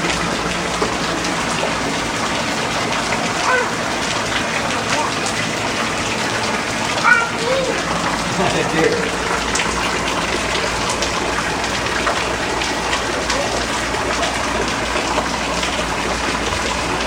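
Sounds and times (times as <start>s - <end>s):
heavy rain falling: 0.0s - 17.0s
water gushing: 0.0s - 17.0s.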